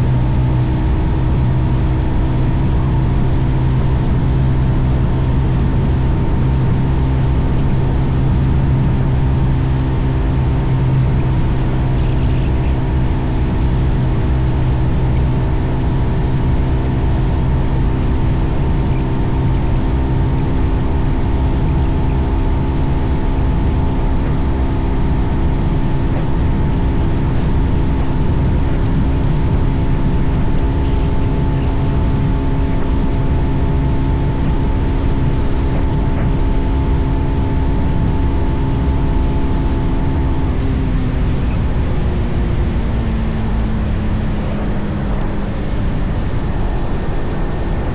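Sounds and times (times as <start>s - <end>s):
motorcycle engine cruising: 0.0s - 47.9s
wind rumble on microphone: 0.0s - 47.9s.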